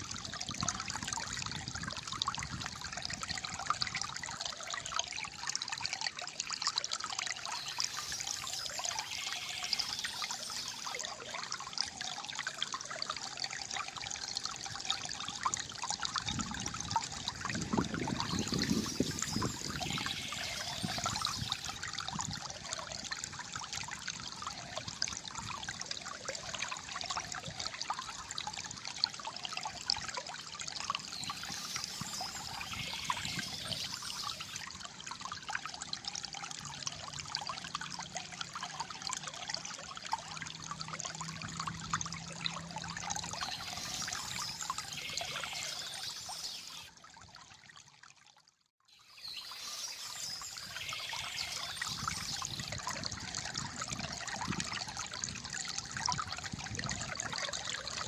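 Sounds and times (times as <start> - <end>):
shallow water trickling and gurgling: 0.0 - 58.0.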